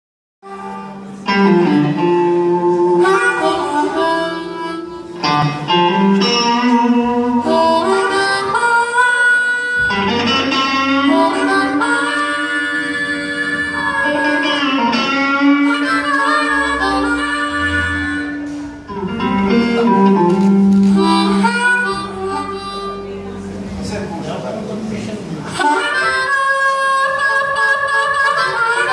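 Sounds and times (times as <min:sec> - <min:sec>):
electric guitar: 0:00.4 - 0:28.9
harmonica bending notes: 0:00.4 - 0:28.9.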